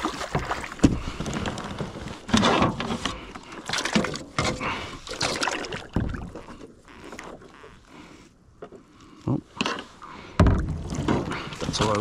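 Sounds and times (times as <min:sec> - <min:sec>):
knocks and clunks on kayak: 0:00.0 - 0:07.8, 0:09.6 - 0:12.0.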